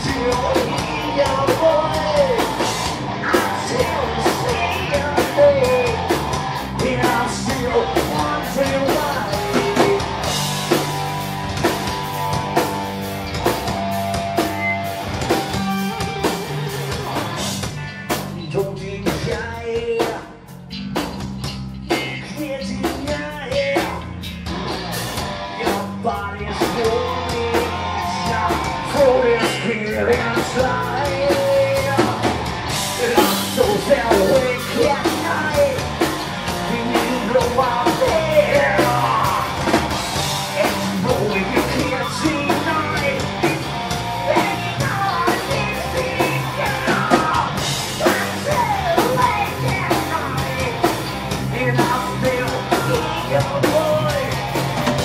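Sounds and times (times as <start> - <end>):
man singing: 0.0 - 10.4, 16.2 - 20.5, 21.9 - 24.2, 25.5 - 55.0
live rock band playing: 0.0 - 55.0.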